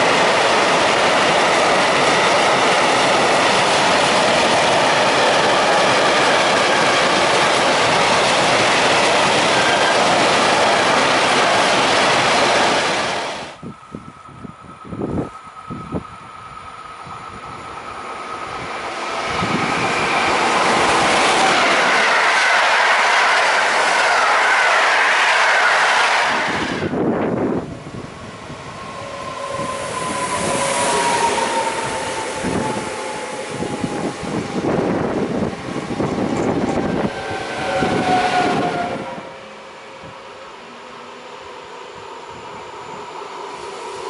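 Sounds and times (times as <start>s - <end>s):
electric train drive whining: 0.0s - 44.0s.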